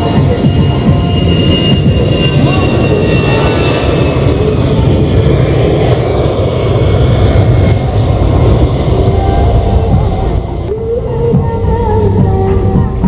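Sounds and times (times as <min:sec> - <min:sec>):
airliner engines roaring: 0:00.0 - 0:13.0.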